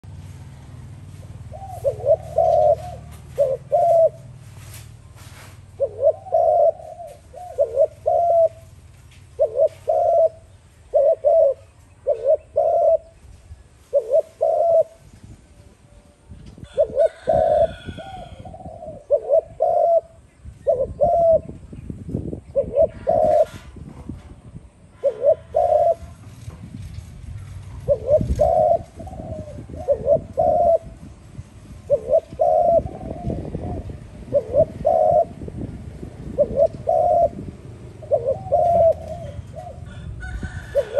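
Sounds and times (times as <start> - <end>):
dove cooing: 1.3 - 4.4, 5.7 - 13.2, 13.8 - 16.0, 16.6 - 21.7, 22.4 - 23.8, 24.9 - 26.4, 27.4 - 40.9.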